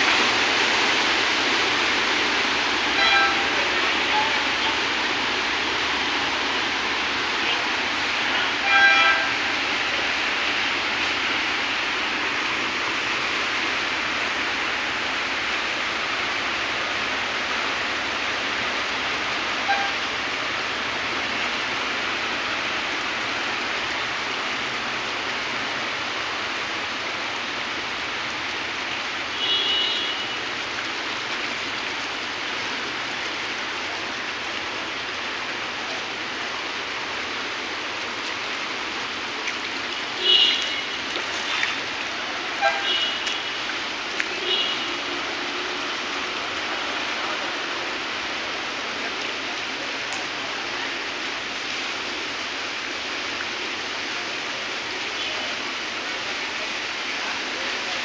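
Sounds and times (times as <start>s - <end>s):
heavy rain: 0.0s - 58.0s
rushing floodwater: 0.0s - 58.0s.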